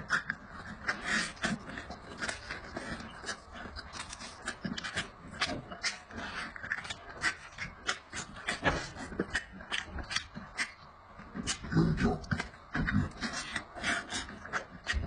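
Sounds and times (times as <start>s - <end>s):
man chewing and lip-smacking: 0.0s - 15.0s.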